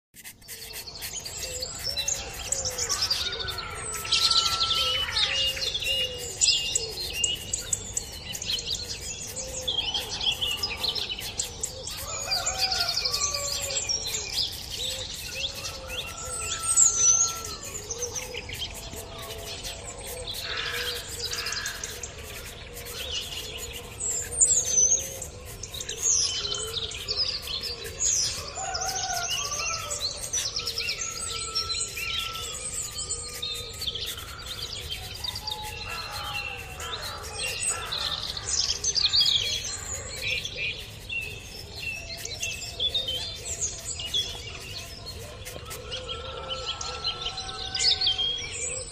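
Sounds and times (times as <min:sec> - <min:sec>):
birds chirping and singing: 0:00.2 - 0:48.9.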